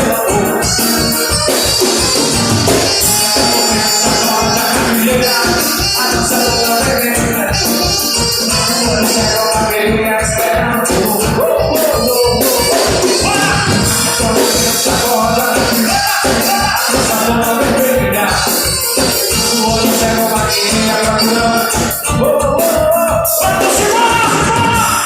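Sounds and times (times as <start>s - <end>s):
fast steady beat: 0.0s - 25.0s
loud music with singing: 0.0s - 25.0s.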